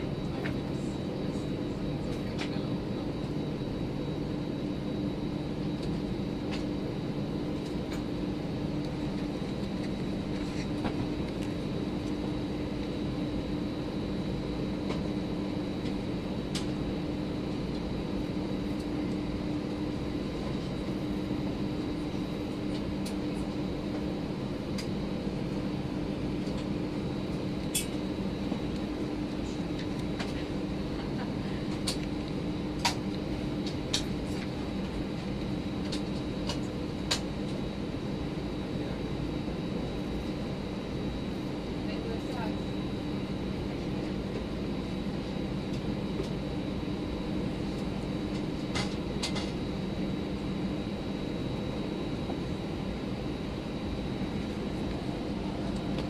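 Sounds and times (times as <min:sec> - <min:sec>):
high engine whine: 0:00.0 - 0:56.0
jet engines idling hum: 0:00.0 - 0:56.0.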